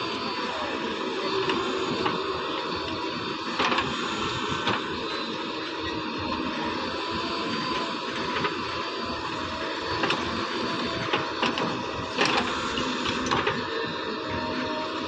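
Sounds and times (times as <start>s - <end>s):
small motor whirring: 0.0s - 15.0s.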